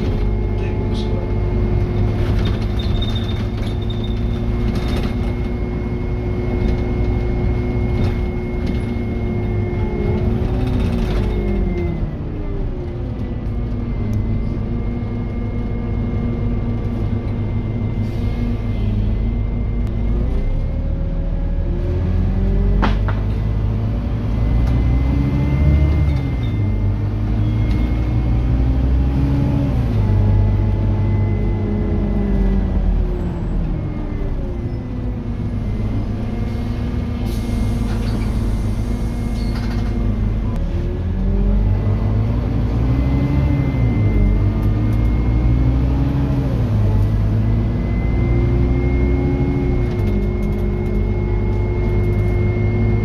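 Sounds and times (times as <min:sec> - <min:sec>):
bus diesel engine accelerating: 0:00.0 - 0:53.0.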